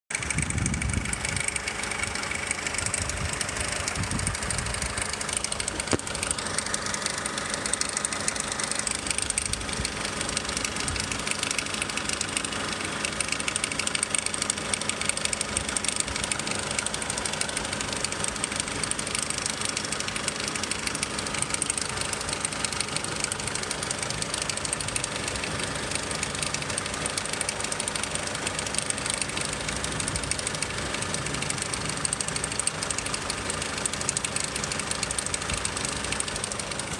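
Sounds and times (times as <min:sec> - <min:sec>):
car engine running with rattle: 0:00.1 - 0:36.9.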